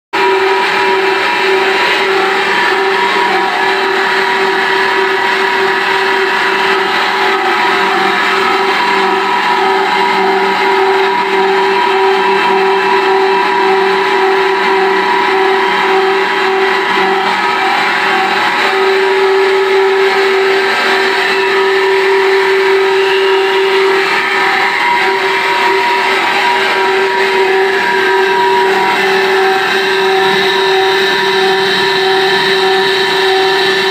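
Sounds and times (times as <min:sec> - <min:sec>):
water turbine humming and whining: 0:00.2 - 0:33.9.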